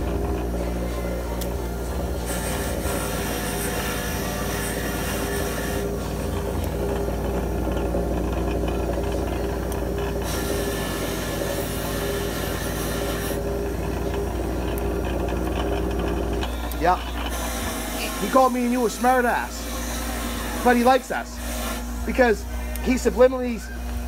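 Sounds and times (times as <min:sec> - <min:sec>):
bench grinder motor hum: 0:00.0 - 0:24.0
metal scraping on grinding wheel: 0:00.0 - 0:24.0.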